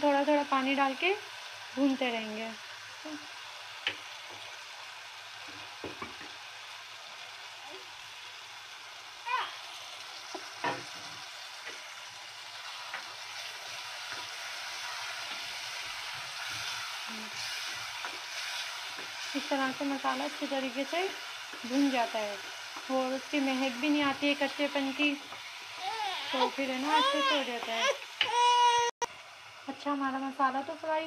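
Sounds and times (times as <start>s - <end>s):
food sizzling in a pot: 0.0s - 31.0s.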